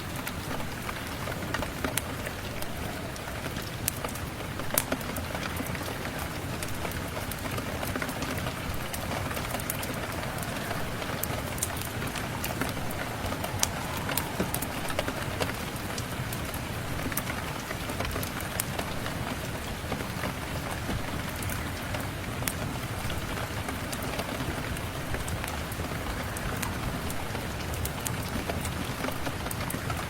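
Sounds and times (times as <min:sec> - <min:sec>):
rain patter: 0:00.0 - 0:30.0.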